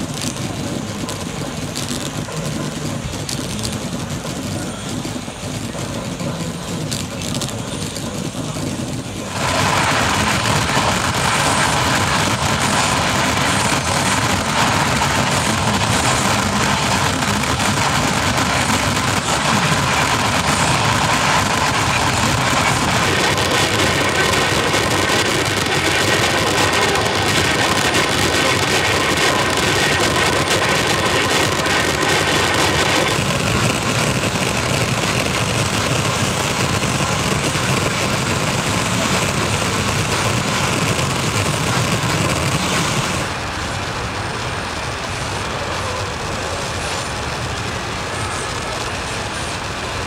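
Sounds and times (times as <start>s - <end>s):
steady whining tones: 0.0s - 50.0s
radio static and buzzing: 0.3s - 43.3s.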